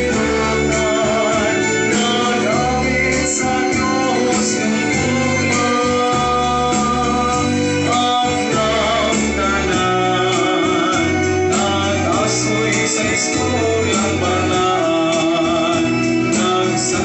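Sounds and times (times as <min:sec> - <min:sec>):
instrumental accompaniment with bass: 0:00.0 - 0:17.0
voices singing a hymn: 0:00.0 - 0:17.0.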